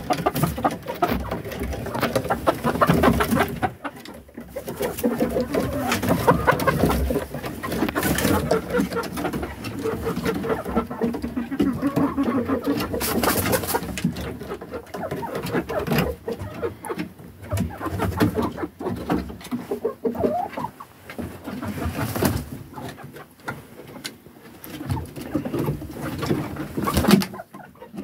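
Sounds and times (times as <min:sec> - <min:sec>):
rustles and knocks: 0:00.0 - 0:27.5
hens clucking softly: 0:00.0 - 0:28.0.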